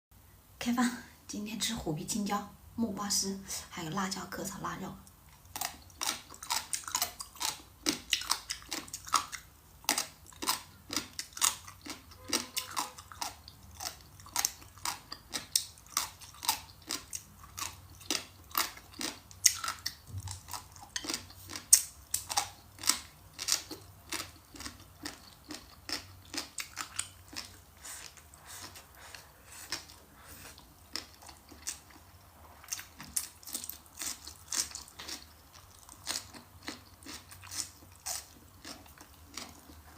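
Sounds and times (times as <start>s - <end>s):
person chewing and crunching: 5.1s - 39.9s.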